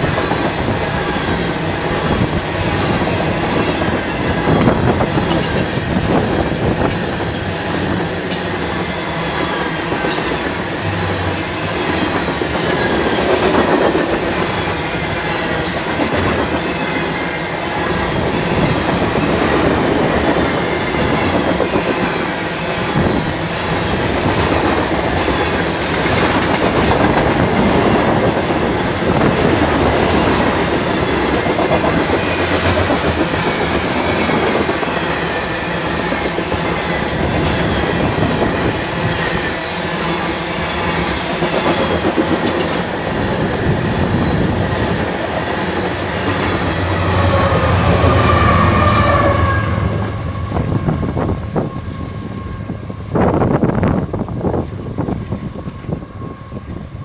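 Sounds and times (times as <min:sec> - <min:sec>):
clickety-clack over rail joints: 0:00.0 - 0:17.2, 0:17.9 - 0:48.0
train wheels rumbling on rails: 0:00.0 - 0:57.0.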